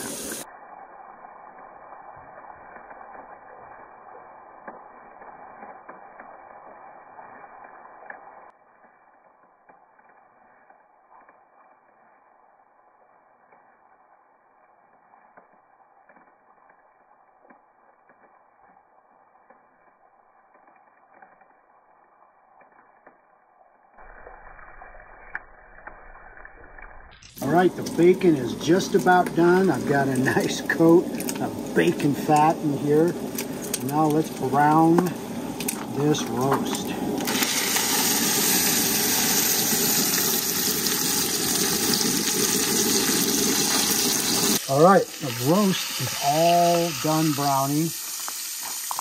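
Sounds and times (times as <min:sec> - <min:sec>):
bacon sizzling in fat: 0:00.0 - 0:49.0.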